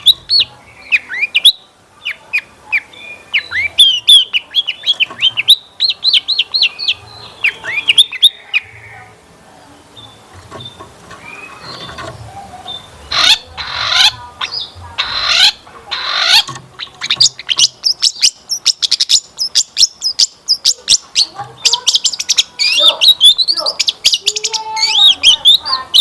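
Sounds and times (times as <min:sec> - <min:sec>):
shrike singing: 0:00.0 - 0:26.0.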